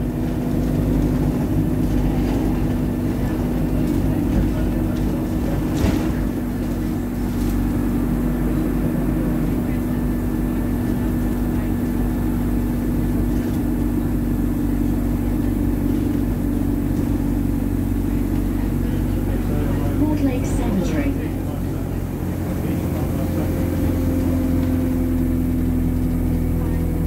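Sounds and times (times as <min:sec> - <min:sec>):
bus engine droning: 0:00.0 - 0:27.0.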